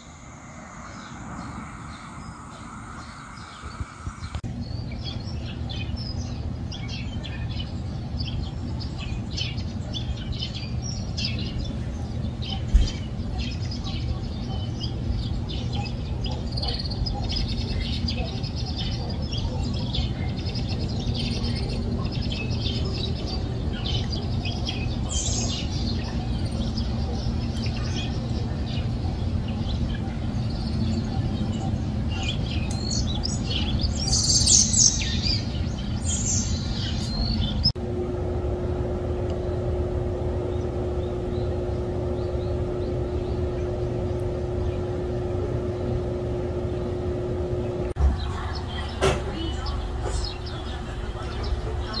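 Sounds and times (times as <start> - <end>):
small birds chirping: 0.0 - 37.8, 39.1 - 52.0
low hum with held tone: 0.0 - 52.0
low outdoor rumble: 0.0 - 52.0.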